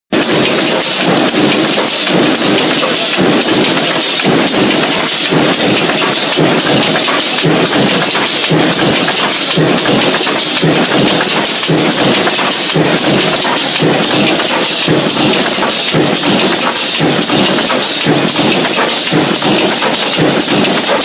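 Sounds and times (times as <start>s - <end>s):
loud steady machine din: 0.1s - 21.0s
stamping press striking: 0.2s - 21.0s.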